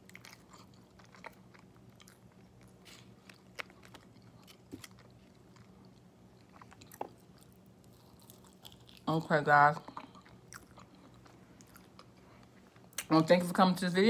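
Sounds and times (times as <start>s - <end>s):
chewing fried chicken: 0.0s - 13.1s
faint steady hum: 0.0s - 14.0s.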